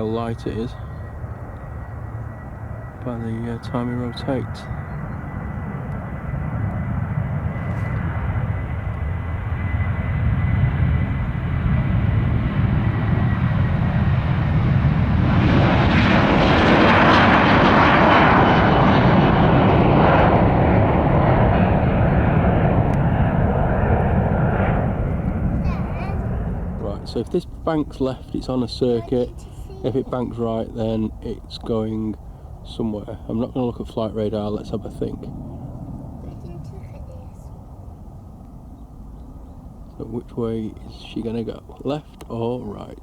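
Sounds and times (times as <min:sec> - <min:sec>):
jet engines low rumble: 0:00.0 - 0:43.0.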